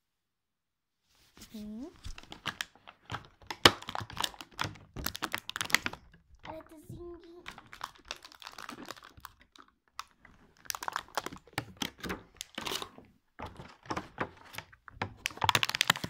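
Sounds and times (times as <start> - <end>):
plastic packaging crinkling: 1.6 - 16.0.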